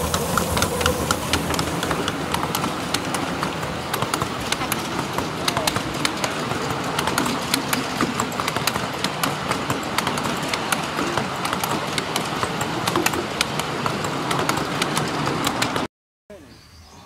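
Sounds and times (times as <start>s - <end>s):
carriages rumbling on track: 0.0s - 15.9s
wheels clacking on rails: 0.0s - 15.9s.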